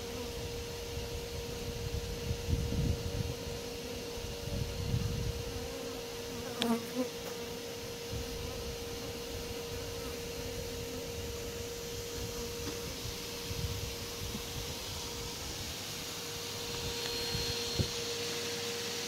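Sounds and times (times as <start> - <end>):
bees buzzing: 2.9 - 19.0.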